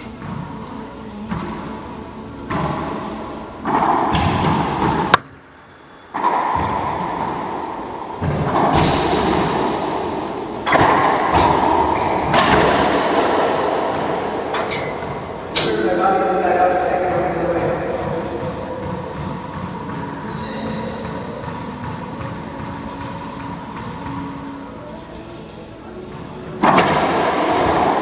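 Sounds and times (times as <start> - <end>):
racquetball hits echoing: 0.0 - 1.8, 2.4 - 24.6, 26.1 - 28.0.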